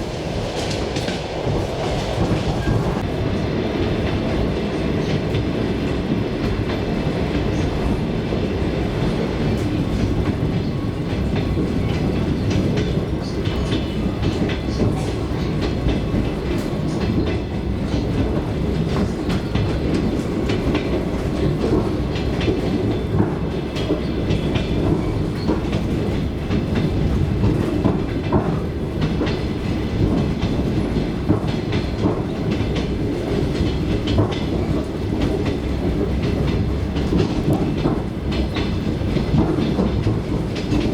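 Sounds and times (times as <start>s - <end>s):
train running rumble: 0.0s - 40.9s.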